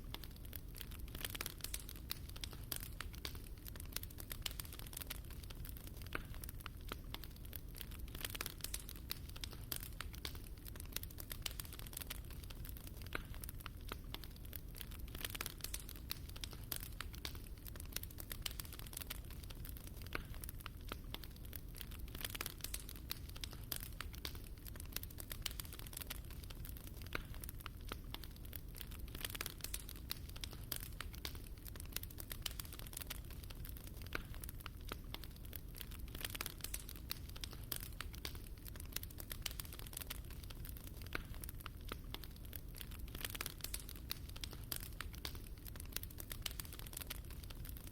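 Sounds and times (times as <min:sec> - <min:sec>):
fire crackling and popping: 0:00.0 - 0:47.9.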